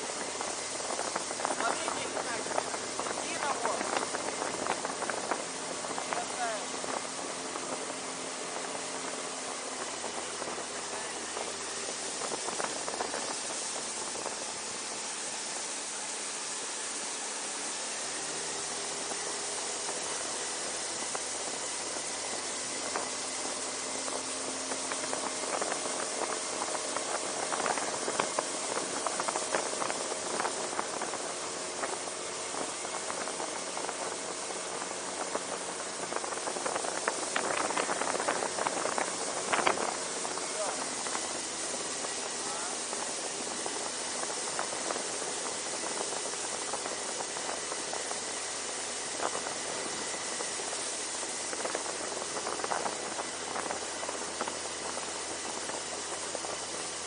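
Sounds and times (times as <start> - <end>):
boat motor running: 0.0 - 57.0
wind and water spray hiss: 0.0 - 57.0.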